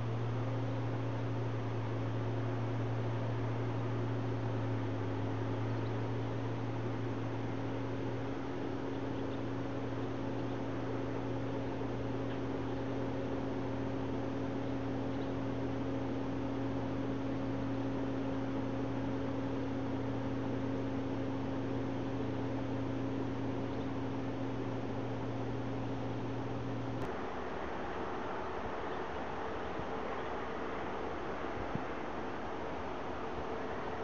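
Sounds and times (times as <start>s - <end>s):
steady low hum with tones: 0.0s - 34.0s.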